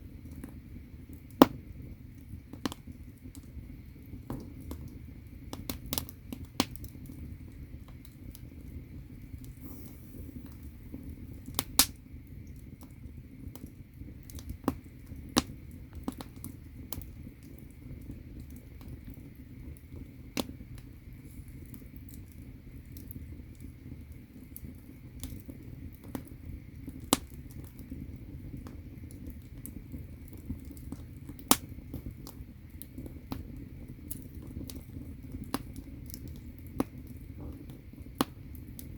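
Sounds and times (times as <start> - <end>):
firewood crackling and popping: 0.0 - 38.9
low rumble of fire: 0.0 - 38.9.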